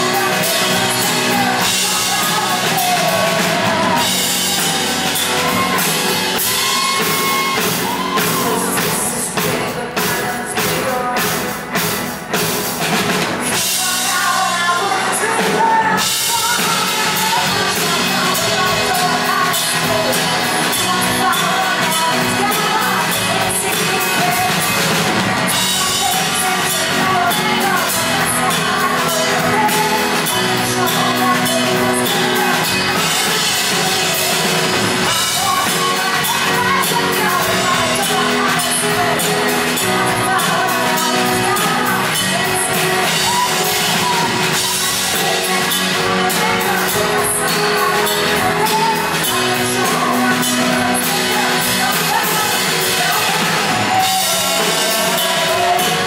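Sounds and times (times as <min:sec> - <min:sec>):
live rock band: 0:00.0 - 0:56.0
woman singing: 0:00.0 - 0:56.0.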